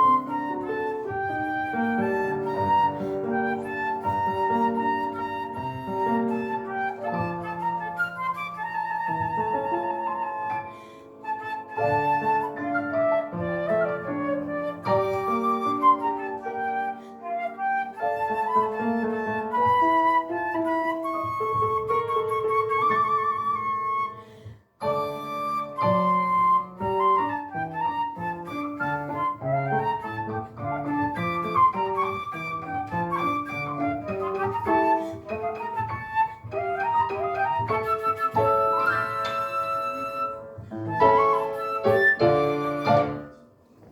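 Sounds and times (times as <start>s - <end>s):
flute melody with vibrato: 0.0s - 43.5s
piano accompaniment: 0.0s - 43.9s.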